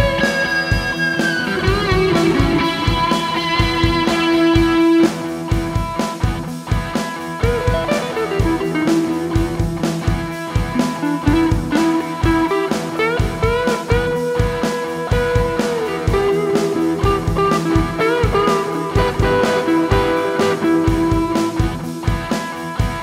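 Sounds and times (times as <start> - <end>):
overdriven electric guitar lead: 0.0 - 23.0
steady drum beat: 0.0 - 23.0.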